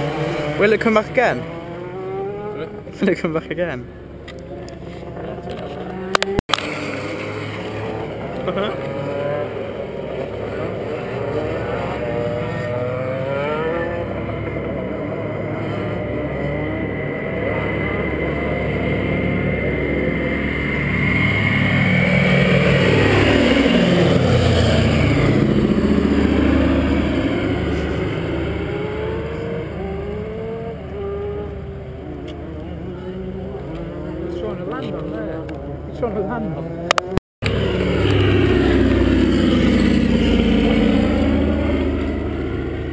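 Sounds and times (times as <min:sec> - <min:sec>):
propeller plane engines droning overhead: 0:02.5 - 0:42.9.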